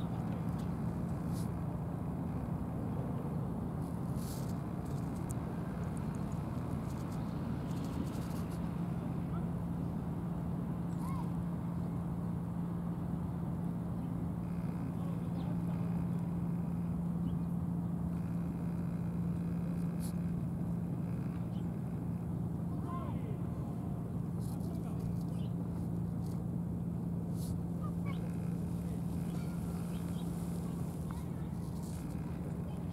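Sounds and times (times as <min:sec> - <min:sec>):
constant low hum: 0:00.0 - 0:32.9
low outdoor rumble: 0:00.0 - 0:32.9.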